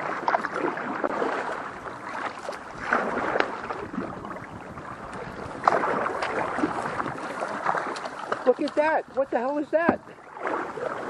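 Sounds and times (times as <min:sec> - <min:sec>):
paddle strokes: 0:00.0 - 0:11.0
water swishing along kayak hull: 0:00.0 - 0:11.0.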